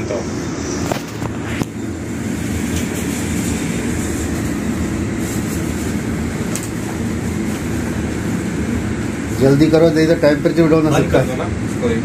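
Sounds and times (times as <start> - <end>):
ship machinery rumble: 0.0 - 12.0.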